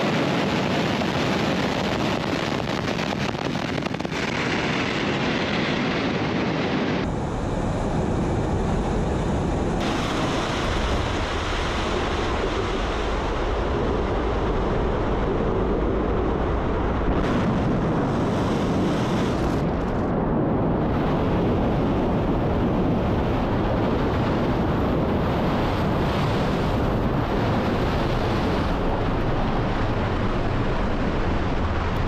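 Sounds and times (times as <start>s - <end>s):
rocket engines roaring: 0.0s - 32.0s.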